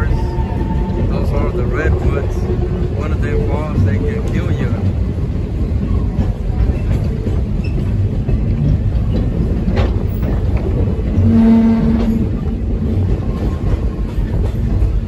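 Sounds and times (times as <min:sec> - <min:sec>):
train cars rumbling: 0:00.0 - 0:15.0
train wheels clicking: 0:00.0 - 0:15.0.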